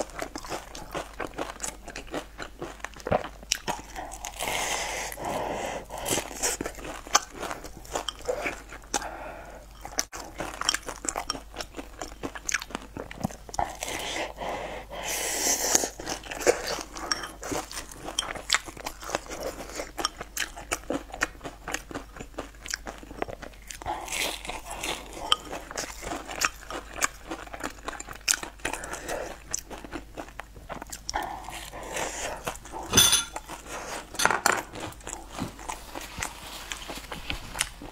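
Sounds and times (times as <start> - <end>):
chewing crunchy food: 0.0 - 37.9.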